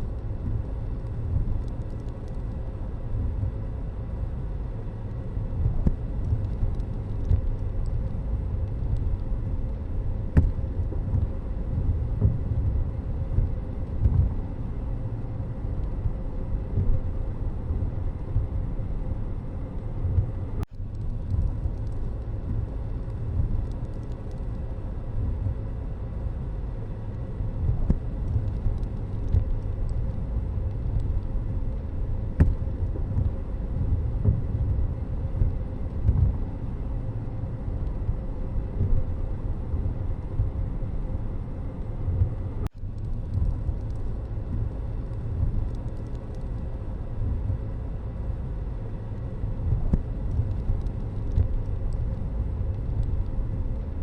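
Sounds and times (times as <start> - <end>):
vehicle road noise rumble: 0.0 - 54.0.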